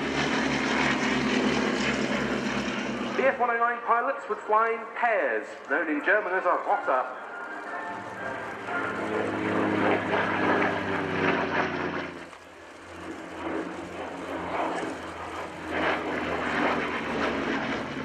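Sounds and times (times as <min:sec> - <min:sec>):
propeller aircraft engine flying past: 0:00.0 - 0:03.7, 0:05.5 - 0:18.0.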